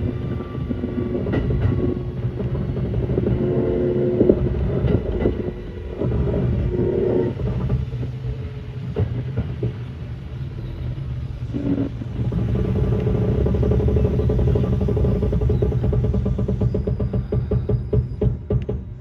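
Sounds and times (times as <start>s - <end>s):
train motor hum: 0.0s - 18.9s
rail joint clicks: 0.0s - 19.0s
train wheels rumbling on rails: 0.0s - 19.0s.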